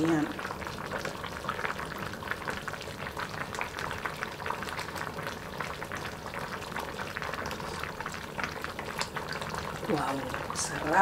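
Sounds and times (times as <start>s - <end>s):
pot simmering with bubbling pops: 0.0s - 11.0s.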